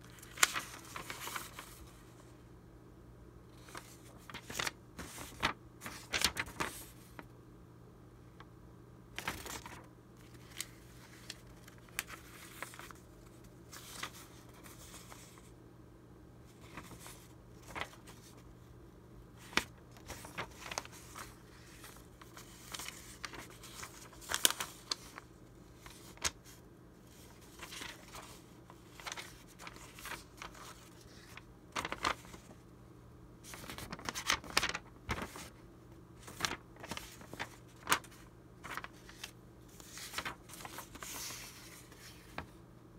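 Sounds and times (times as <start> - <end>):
paper sheets rustling and crinkling: 0.0 - 2.3, 3.5 - 7.3, 9.2 - 15.6, 16.5 - 18.6, 19.3 - 32.7, 33.4 - 42.6.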